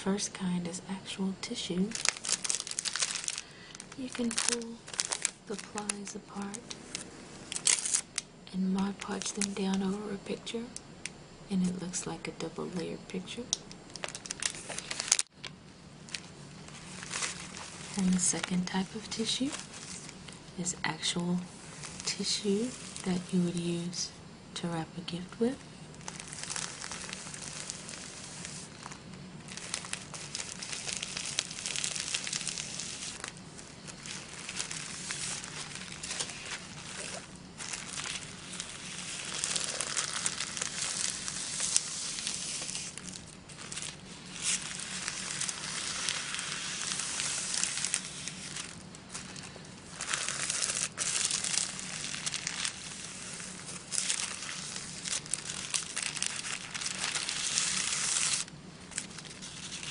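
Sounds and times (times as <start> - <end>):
tissue paper crinkling: 1.4 - 10.2, 13.9 - 15.3, 16.0 - 20.3, 21.0 - 23.6, 25.8 - 59.9.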